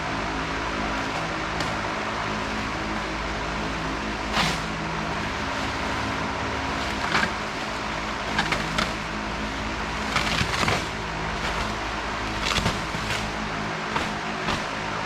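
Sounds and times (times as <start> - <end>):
low mechanical hum: 0.0 - 15.0
packaging rustling and clatter: 0.6 - 15.0.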